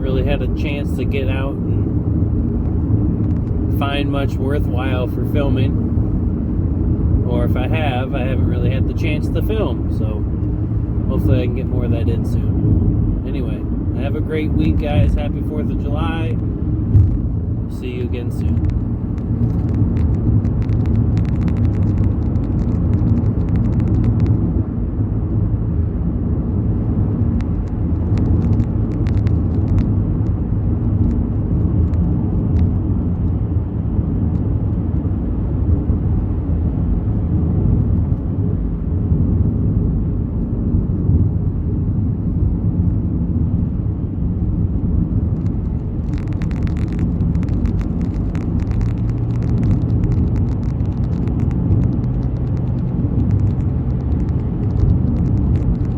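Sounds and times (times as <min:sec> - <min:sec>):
road and engine rumble in car: 0:00.0 - 0:55.9.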